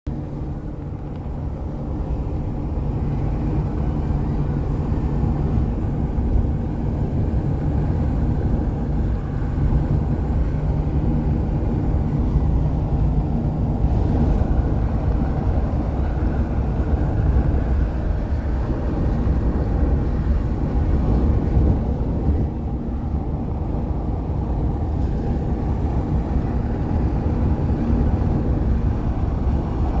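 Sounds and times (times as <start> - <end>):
moving car rumble: 0.0 - 30.0.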